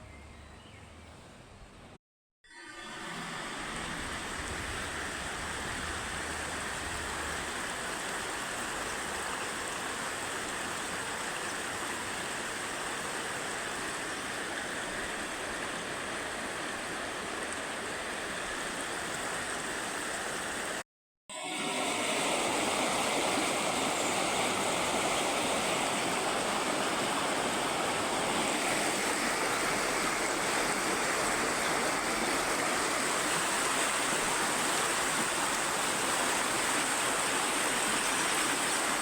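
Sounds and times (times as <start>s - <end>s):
stream water rushing: 2.9s - 20.8s, 21.4s - 39.0s.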